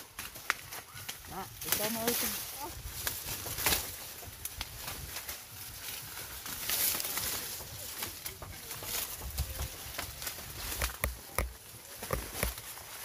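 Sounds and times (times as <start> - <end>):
dry corn leaves rustling: 0.0 - 13.0.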